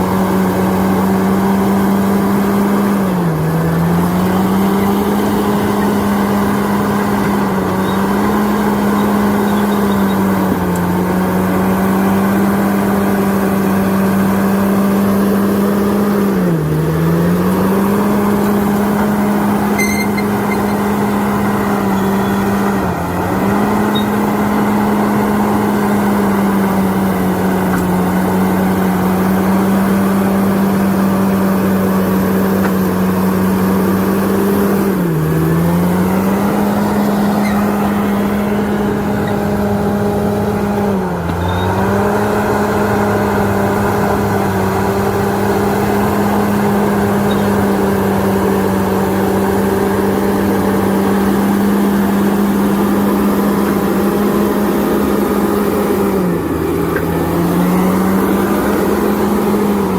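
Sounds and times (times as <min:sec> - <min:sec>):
diesel engine at high revs: 0:00.0 - 0:59.9.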